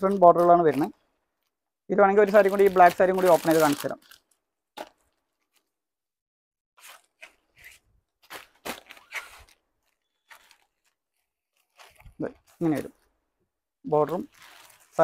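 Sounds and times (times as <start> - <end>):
fabric rustling and crinkling: 0.0 - 5.8, 6.8 - 15.0.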